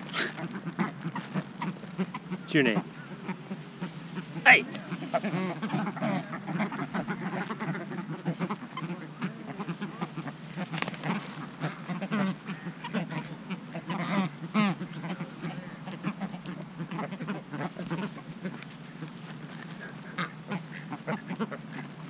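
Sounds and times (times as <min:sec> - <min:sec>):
birds honking grunts: 0:00.0 - 0:22.0.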